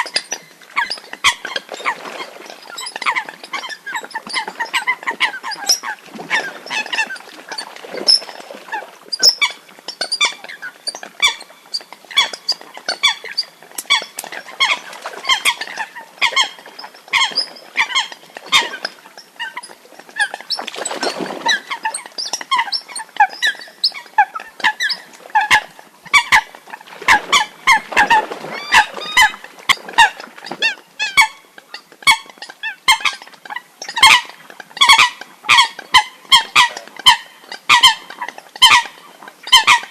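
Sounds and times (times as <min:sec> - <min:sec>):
water hen calls: 0:00.0 - 0:39.9.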